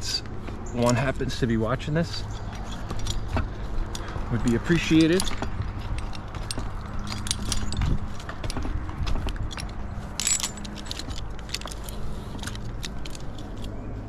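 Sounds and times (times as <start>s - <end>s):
climbing hardware clinking: 0.0s - 14.0s.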